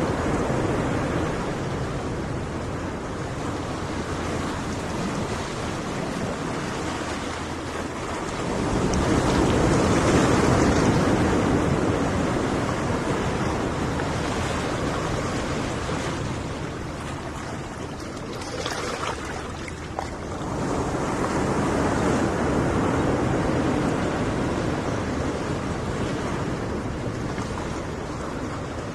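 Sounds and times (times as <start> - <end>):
sea waves washing on beach: 0.0 - 28.9.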